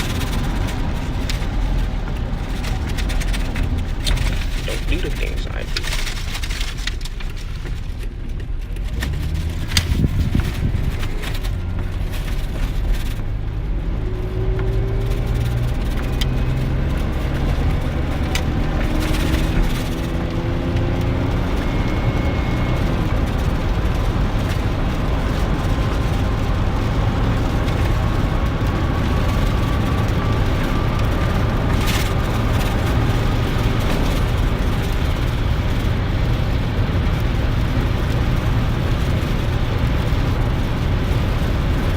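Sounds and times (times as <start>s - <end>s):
truck engine and road rumble: 0.0s - 41.9s.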